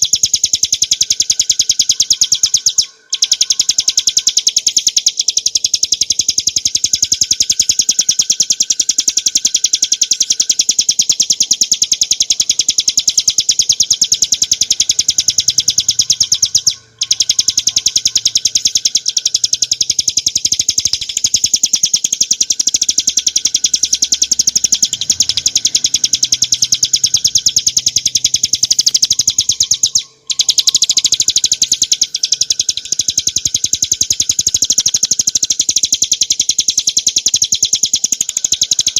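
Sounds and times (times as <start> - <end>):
small bird chirping rapidly: 0.0 - 38.9.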